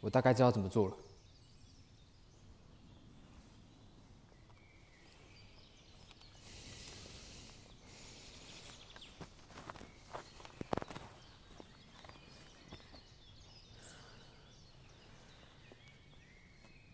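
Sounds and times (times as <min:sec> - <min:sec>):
soft rustling hiss: 0:02.3 - 0:16.9.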